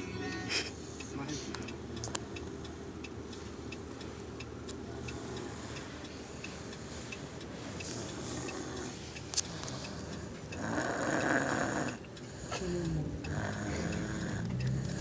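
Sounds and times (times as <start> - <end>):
faint regular ticking: 0.0 - 15.0
steady low hum: 0.0 - 15.0.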